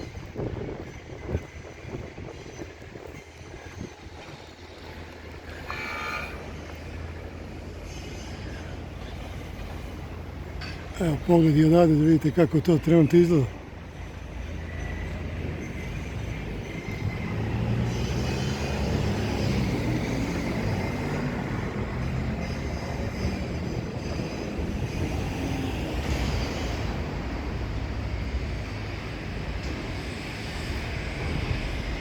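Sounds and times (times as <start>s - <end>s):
vehicle rumble with hiss: 3.8s - 32.0s.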